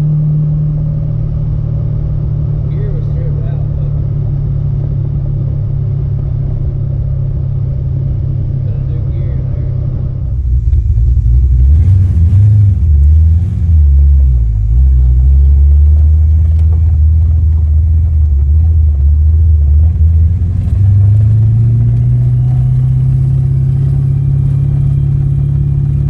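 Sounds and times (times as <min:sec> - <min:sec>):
car engine droning: 0:00.0 - 0:26.0.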